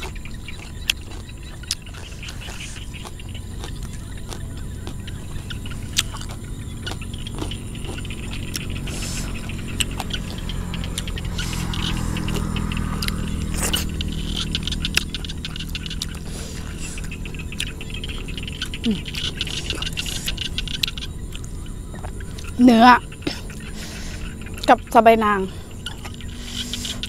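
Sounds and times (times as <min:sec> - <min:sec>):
wet chewing and mouth sounds: 0:00.0 - 0:25.0, 0:25.7 - 0:27.0
frogs calling: 0:00.0 - 0:27.0
low outdoor rumble: 0:00.0 - 0:27.0.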